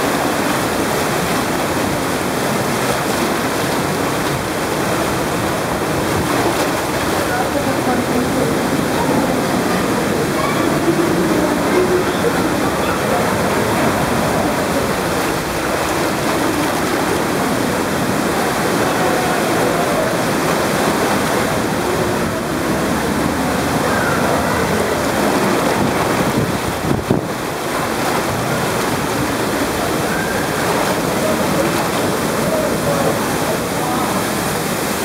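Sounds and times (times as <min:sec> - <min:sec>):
white water rushing and splashing: 0:00.0 - 0:35.0.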